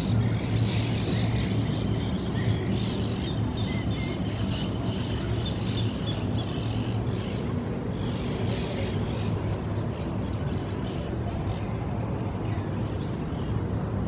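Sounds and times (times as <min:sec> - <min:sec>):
low droning hum: 0:00.0 - 0:14.0.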